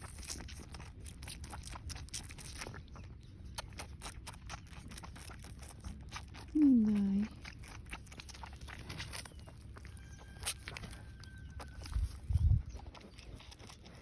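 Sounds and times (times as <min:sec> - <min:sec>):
lamb sucking on bottle teat: 0:00.0 - 0:14.0.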